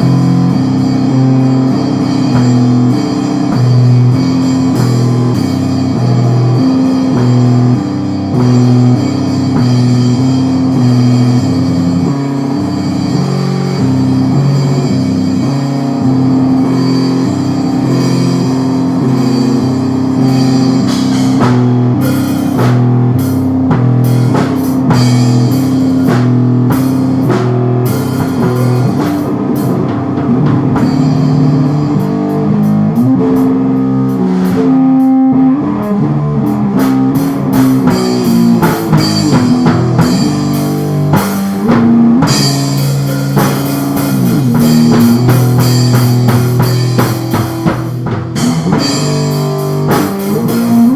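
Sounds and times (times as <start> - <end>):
drum kit: 0.0 - 50.9
guitars playing: 0.0 - 50.9
lo-fi rock music: 0.0 - 50.9.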